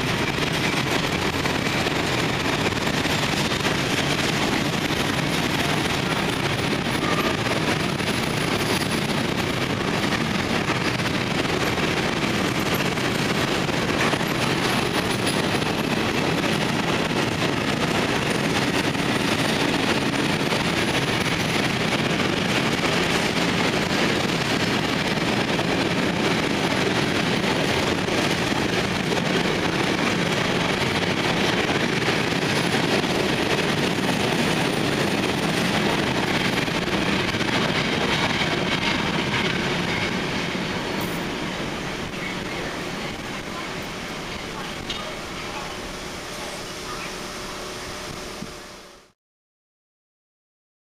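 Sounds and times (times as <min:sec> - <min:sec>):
train wheels running on rails: 0:00.0 - 0:49.2.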